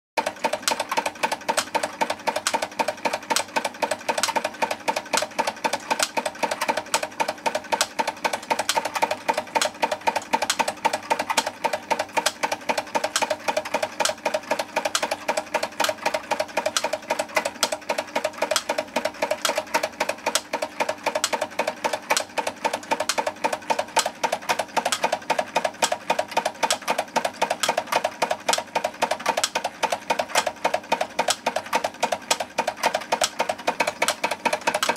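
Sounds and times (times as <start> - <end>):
model steam engine clatter: 0.2 - 34.9.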